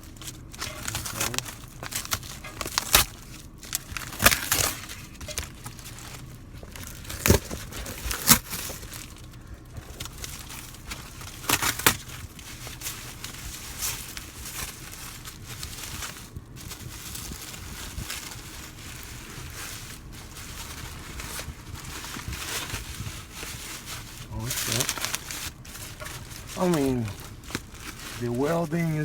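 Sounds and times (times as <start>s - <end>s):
packaging crinkling and tearing: 0.0s - 29.0s.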